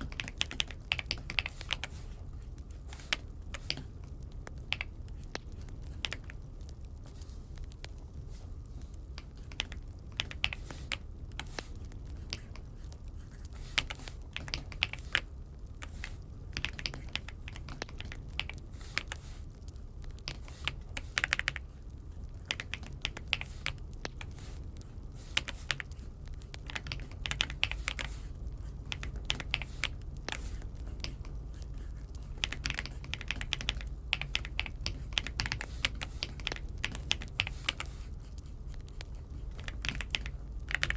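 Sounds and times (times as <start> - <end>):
mechanical keyboard typing: 0.0 - 6.9, 9.2 - 21.6, 22.4 - 40.9.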